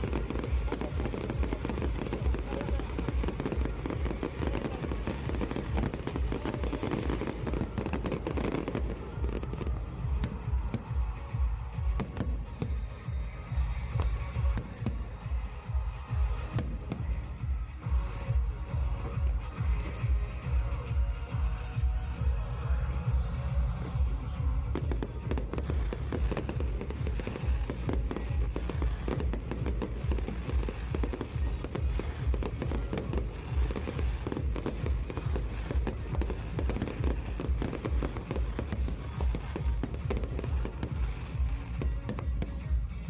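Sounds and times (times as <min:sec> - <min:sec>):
fireworks bangs and crackles: 0:00.0 - 0:22.0, 0:23.1 - 0:43.0
music with heavy beat: 0:00.0 - 0:43.0.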